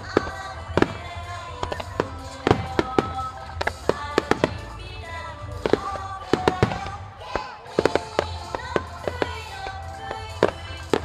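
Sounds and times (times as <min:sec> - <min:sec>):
fireworks launching and bursting: 0:00.0 - 0:11.0
music with sustained tones: 0:00.0 - 0:11.0.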